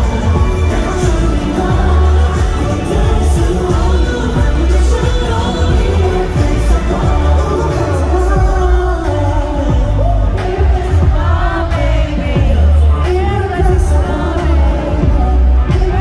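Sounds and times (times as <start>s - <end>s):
amplified backing track with heavy bass: 0.0s - 16.0s
men singing into microphones: 0.0s - 16.0s.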